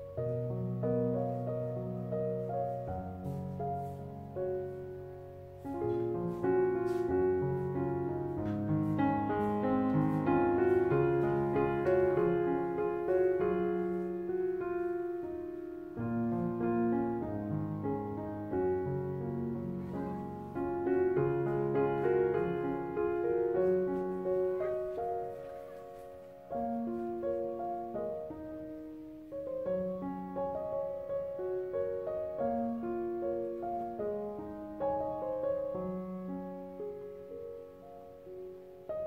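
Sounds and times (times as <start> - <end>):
slow piano melody: 0.0 - 39.0.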